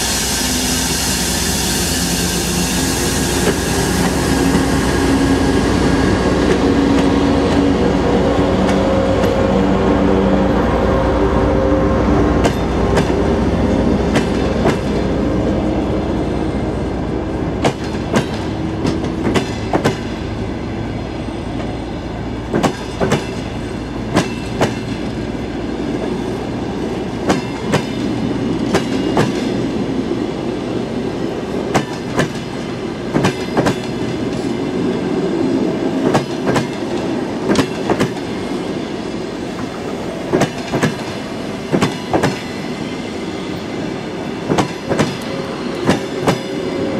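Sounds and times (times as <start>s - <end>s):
train wheels clacking on rails: 0.0s - 9.6s, 12.3s - 15.2s, 17.6s - 20.4s, 21.5s - 29.9s, 31.4s - 46.9s
train rumble: 0.0s - 46.9s.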